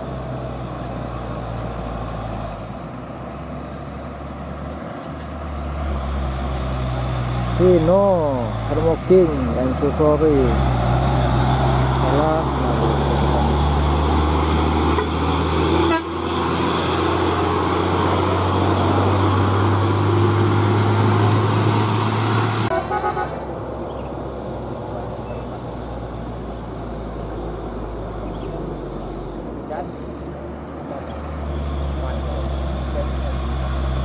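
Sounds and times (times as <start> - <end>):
truck engine approaching: 0.0 - 34.0
truck engine pulling hard: 0.0 - 34.0.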